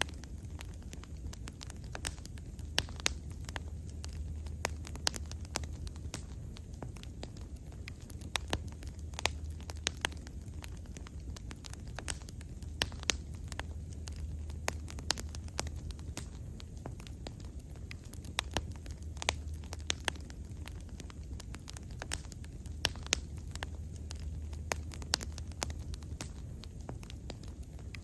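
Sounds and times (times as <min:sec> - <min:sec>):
bonfire crackling: 0:00.0 - 0:28.0.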